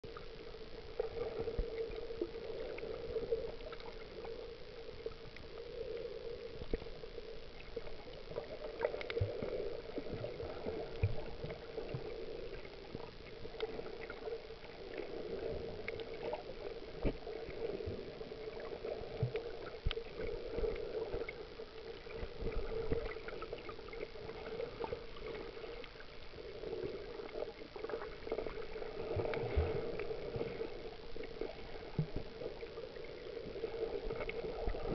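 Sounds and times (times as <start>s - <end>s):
muffled underwater water wash: 0.0s - 34.9s.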